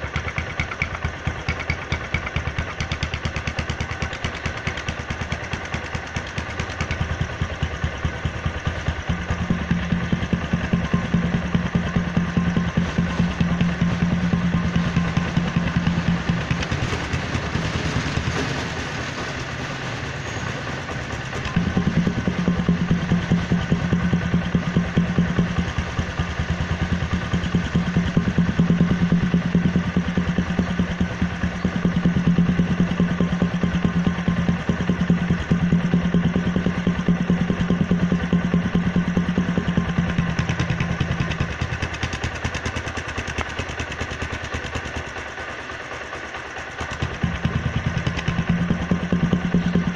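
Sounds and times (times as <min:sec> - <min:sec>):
motorcycle engine idling: 0:00.0 - 0:49.9.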